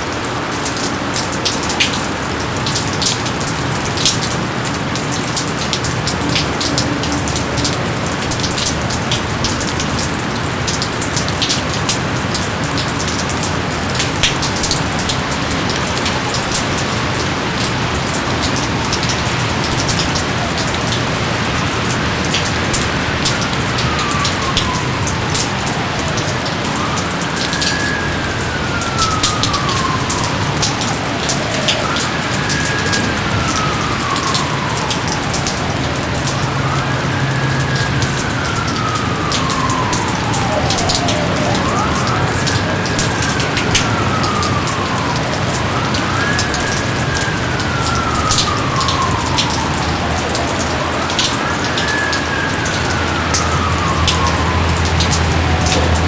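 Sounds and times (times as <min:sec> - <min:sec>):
heavy rain: 0:00.0 - 0:56.0
sharp drips: 0:00.0 - 0:56.0.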